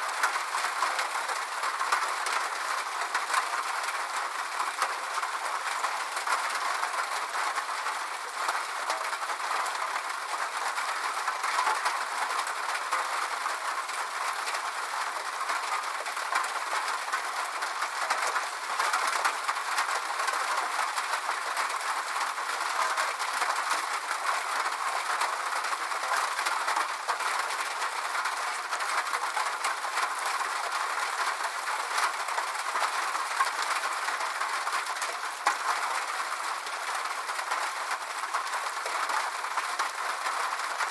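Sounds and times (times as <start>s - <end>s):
rain on a metal roof: 0.0s - 40.9s.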